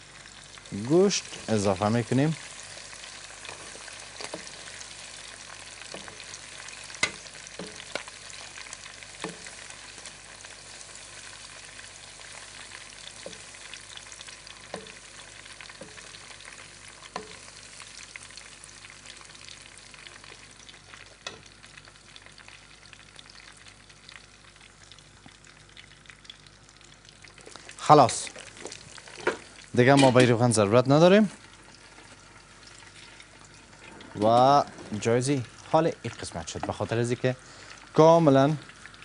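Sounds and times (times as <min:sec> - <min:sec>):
oil sizzling in a pot: 0:00.0 - 0:39.0.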